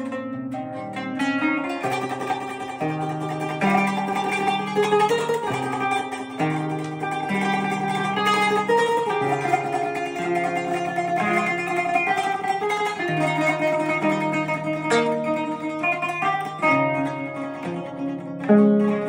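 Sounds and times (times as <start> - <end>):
plucked zither melody: 0.0 - 19.0.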